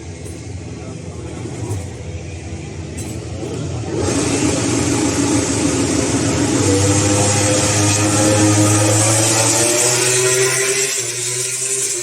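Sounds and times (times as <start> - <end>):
vehicle engine running: 0.0 - 10.5
noisy wash: 0.0 - 12.0.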